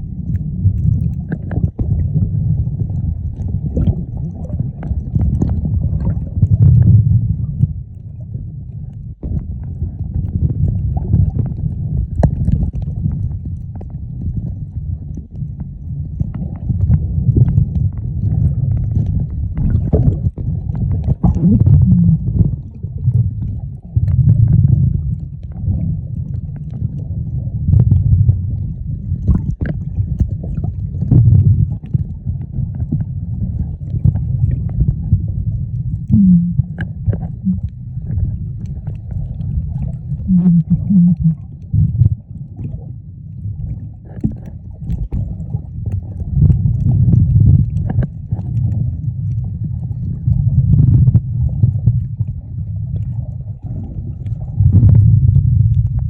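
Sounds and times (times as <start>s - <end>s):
underwater rumble of moving water: 0.0s - 56.0s.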